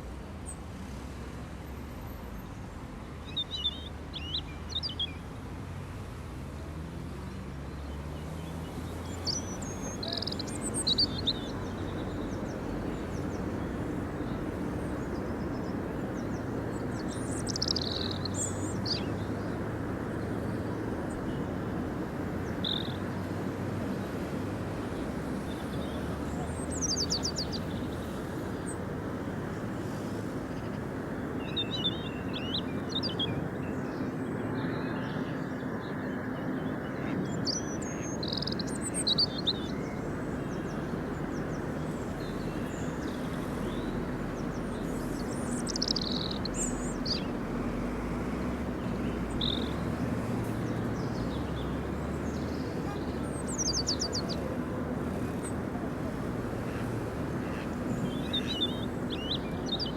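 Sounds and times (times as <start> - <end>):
small birds chirping and trilling: 3.2 - 5.3, 7.2 - 59.9.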